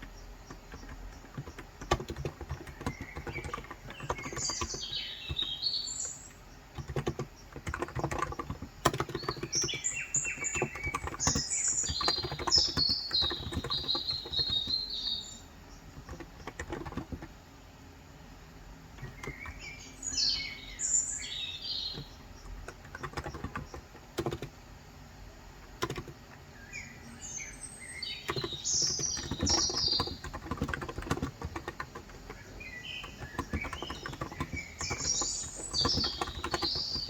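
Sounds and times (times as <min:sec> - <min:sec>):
bird chirping: 0:00.0 - 0:17.4, 0:19.0 - 0:24.6, 0:25.3 - 0:37.0
typing on a keyboard: 0:00.0 - 0:17.4, 0:18.9 - 0:24.7, 0:25.6 - 0:26.5, 0:28.0 - 0:37.0.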